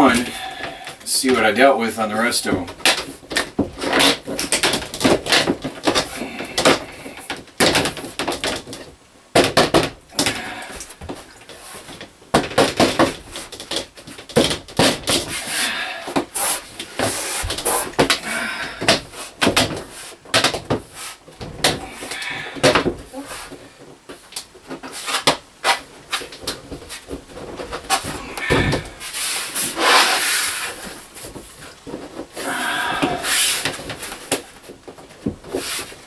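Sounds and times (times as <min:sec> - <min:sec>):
plastic panels clattering: 0:02.4 - 0:36.0.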